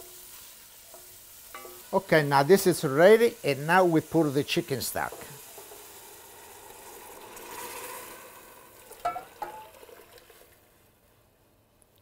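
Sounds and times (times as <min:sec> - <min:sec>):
stock pouring and sizzling: 0:00.0 - 0:11.1.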